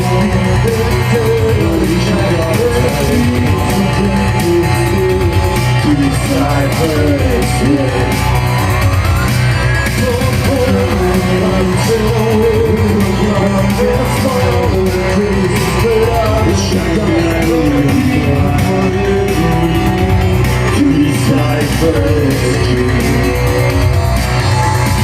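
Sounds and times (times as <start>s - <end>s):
live band playing: 0.0s - 25.0s
person singing long notes: 0.0s - 25.0s.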